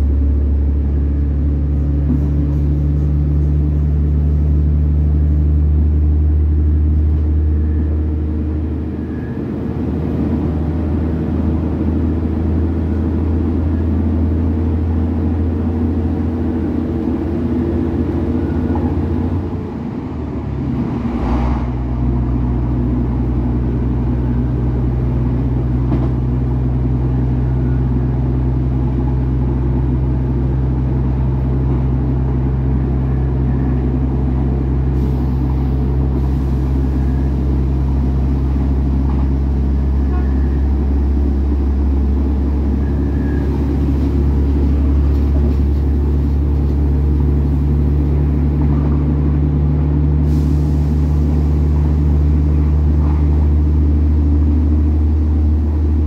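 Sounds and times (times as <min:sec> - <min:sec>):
railcar diesel engine hum: 0:00.0 - 0:56.0.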